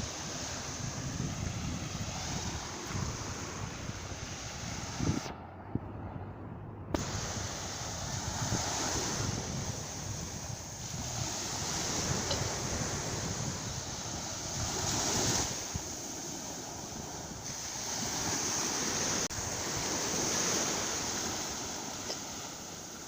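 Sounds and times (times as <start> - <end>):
sea surf washing: 0.0 - 6.3, 6.9 - 23.0
wind buffeting microphone: 0.0 - 23.0.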